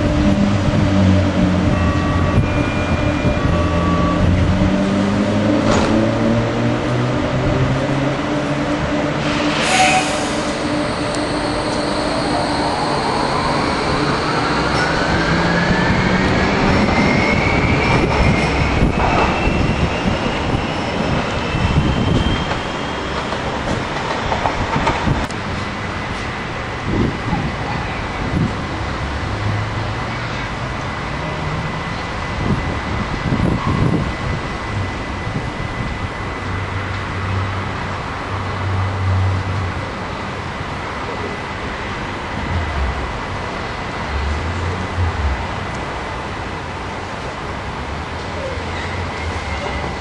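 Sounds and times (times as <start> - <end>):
wheels rumbling on rails: 0.0 - 50.0.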